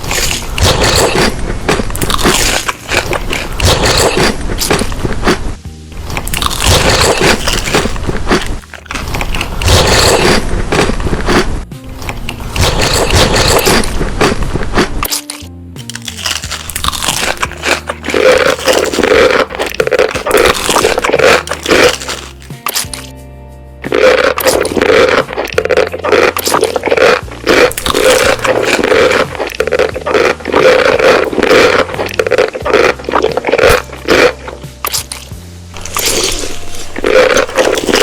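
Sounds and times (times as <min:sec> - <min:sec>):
crackly scraping noises: 0:00.0 - 0:23.2, 0:23.8 - 0:38.0
crunchy chewing: 0:00.0 - 0:23.2, 0:23.8 - 0:38.0
background music with low bass: 0:00.0 - 0:38.0.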